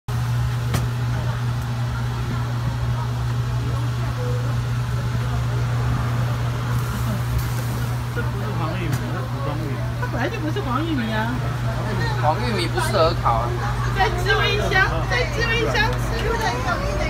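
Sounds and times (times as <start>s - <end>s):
electric fan motor humming: 0.1s - 17.0s.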